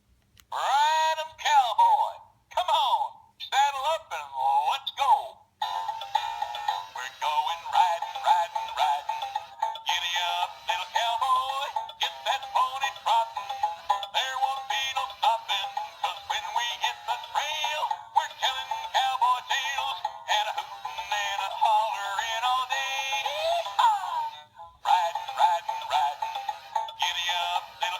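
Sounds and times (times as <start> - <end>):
toy singing through tinny speaker: 0.5 - 27.9.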